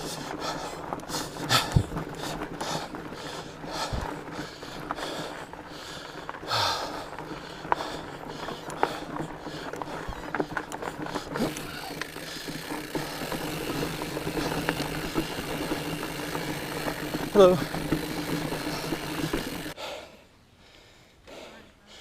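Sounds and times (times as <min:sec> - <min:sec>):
bike clicks and rattles: 0:00.0 - 0:19.8
fat tires rolling over dirt: 0:00.0 - 0:19.8.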